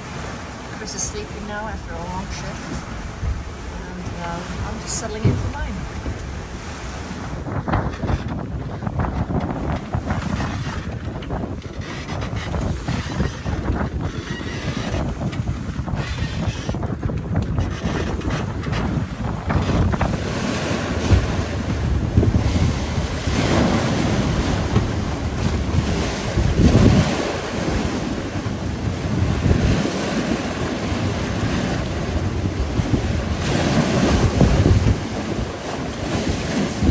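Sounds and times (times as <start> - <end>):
sea water splashing past hull: 0.0 - 36.9
wind buffeting microphone: 0.0 - 36.9.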